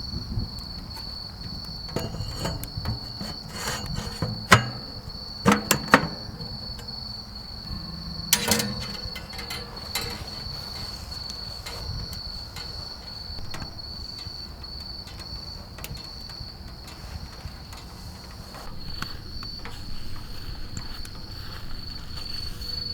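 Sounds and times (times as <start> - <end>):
cricket chirping trill: 0.0 - 22.9.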